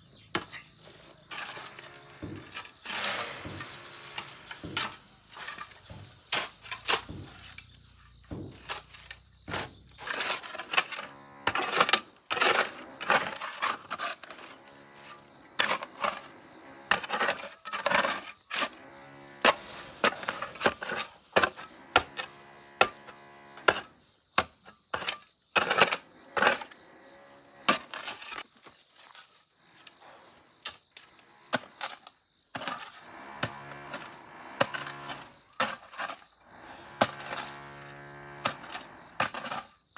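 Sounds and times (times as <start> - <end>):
high insect whine: 0.0 - 39.9
scraping and knocking: 0.3 - 26.8, 30.7 - 39.8.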